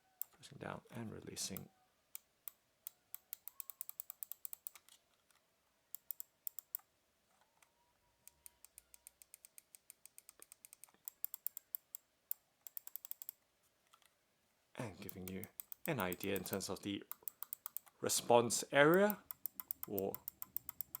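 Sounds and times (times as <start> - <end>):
softer even clicks: 1.5 - 14.1, 15.0 - 21.0.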